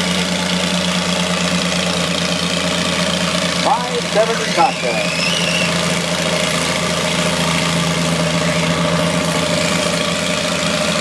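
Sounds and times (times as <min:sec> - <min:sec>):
tractor engine running steadily: 0:00.0 - 0:11.0.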